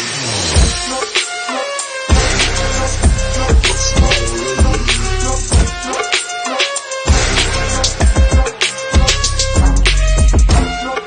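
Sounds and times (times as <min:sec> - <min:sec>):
hip hop music with heavy beat: 0:00.0 - 0:11.0.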